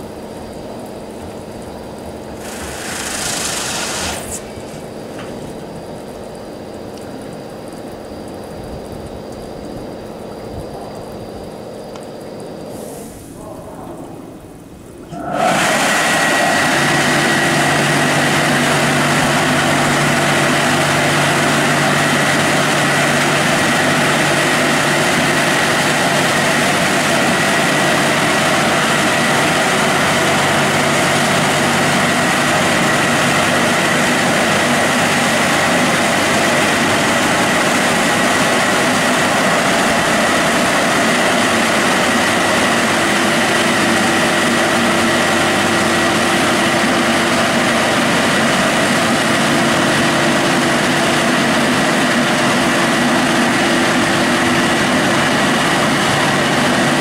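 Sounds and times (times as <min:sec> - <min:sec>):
car wash machine roaring: 0:00.0 - 0:57.0
high mechanical whine: 0:00.0 - 0:57.0.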